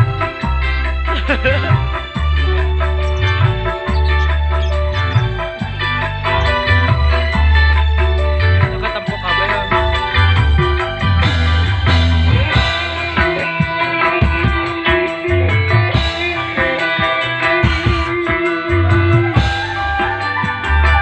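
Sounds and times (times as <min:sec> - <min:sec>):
rock music with guitars and drums: 0:00.0 - 0:21.0.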